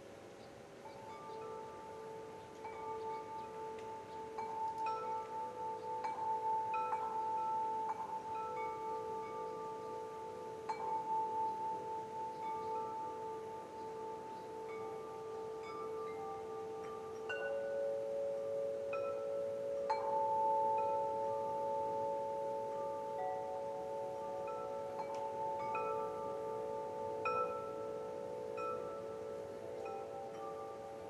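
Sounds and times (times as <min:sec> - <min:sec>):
wind chimes ringing: 0:00.0 - 0:31.0.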